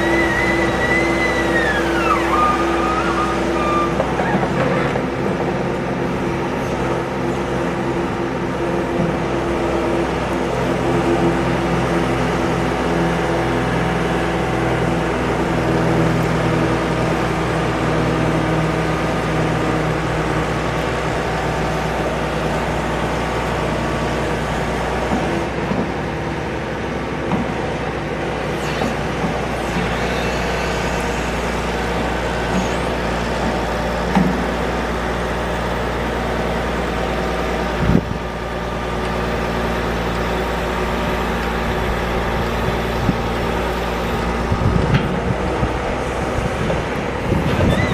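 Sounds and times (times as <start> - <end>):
backhoe diesel engine running: 0.0 - 47.9.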